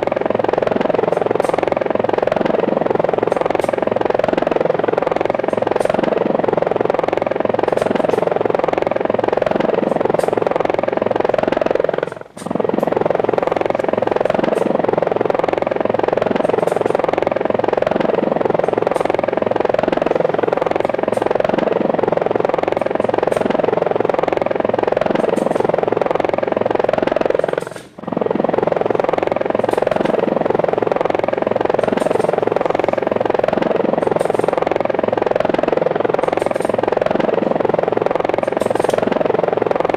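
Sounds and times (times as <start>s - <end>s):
helicopter rotor pulsing: 0.0s - 39.9s.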